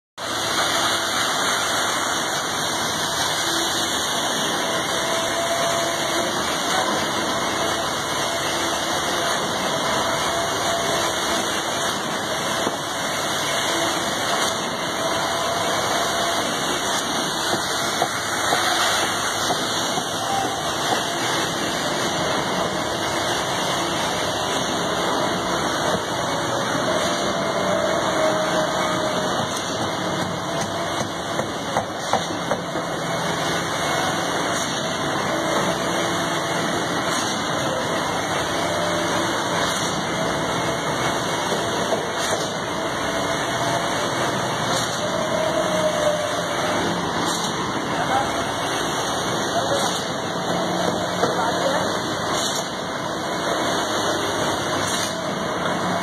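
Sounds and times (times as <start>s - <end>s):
heavy machinery engines droning: 0.2s - 56.0s.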